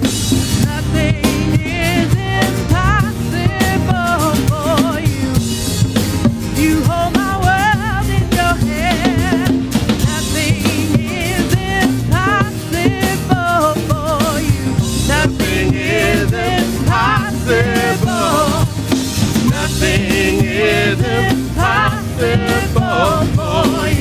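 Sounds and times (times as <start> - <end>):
drum kit: 0.0 - 24.0
sustained bass: 0.0 - 24.0
worship band music: 0.0 - 24.0
person singing: 0.6 - 5.7, 6.6 - 24.0.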